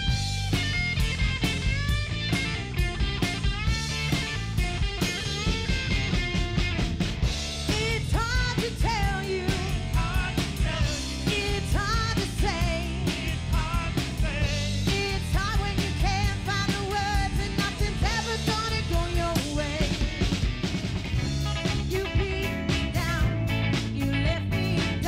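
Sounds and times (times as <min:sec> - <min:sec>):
bass guitar: 0:00.0 - 0:25.0
drum kit beat: 0:00.0 - 0:25.0
electric guitar: 0:00.0 - 0:25.0.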